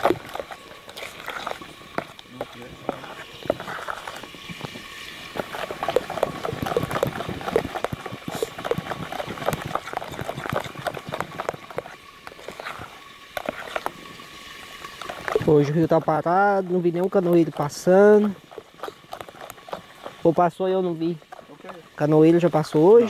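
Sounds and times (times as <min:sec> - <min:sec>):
utensil clacking against bowl: 0:00.0 - 0:14.0, 0:15.0 - 0:23.0.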